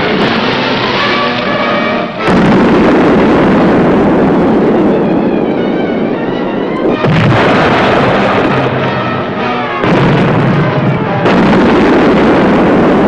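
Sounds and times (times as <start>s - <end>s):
background film music: 0.0s - 3.4s, 4.6s - 12.6s
depth charges exploding: 0.0s - 5.4s, 6.9s - 13.0s.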